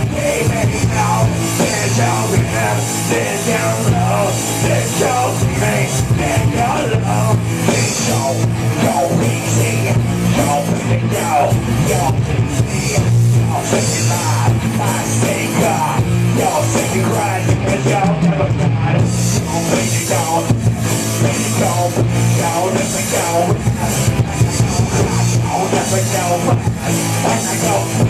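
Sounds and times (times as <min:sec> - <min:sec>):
hard rock band playing: 0:00.0 - 0:28.0
person singing: 0:00.0 - 0:28.0.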